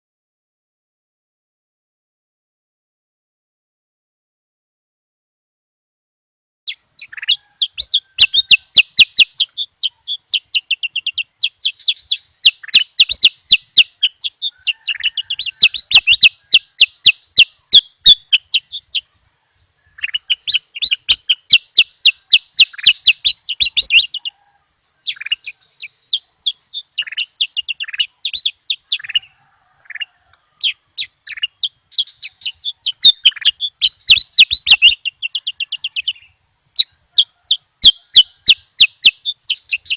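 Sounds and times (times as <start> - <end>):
bird singing chattering trills: 6.7 - 39.9
faint high-pitched hiss: 6.7 - 39.9.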